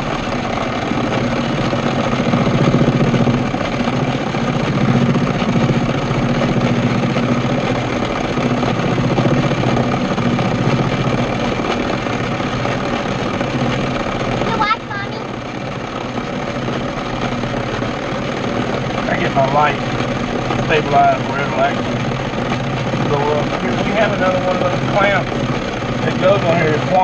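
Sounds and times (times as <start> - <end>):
metal lathe motor humming: 0.0 - 27.0.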